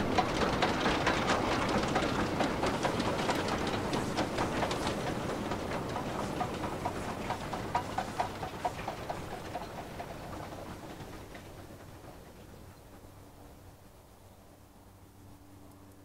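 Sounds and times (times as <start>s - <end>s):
train wheels clicking over rail joints: 0.0s - 14.4s
train low rumble: 0.0s - 16.0s.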